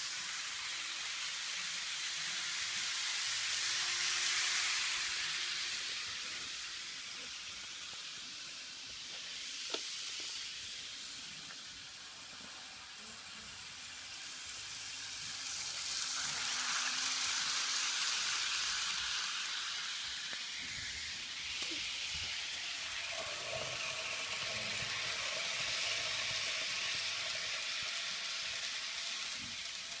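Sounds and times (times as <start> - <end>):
model train running on track: 0.0 - 30.0.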